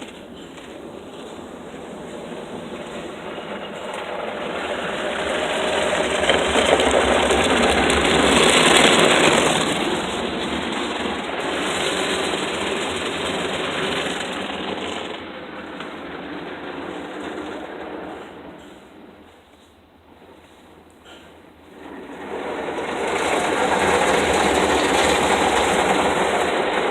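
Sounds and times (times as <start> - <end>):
car wash rushing: 0.0 - 26.9.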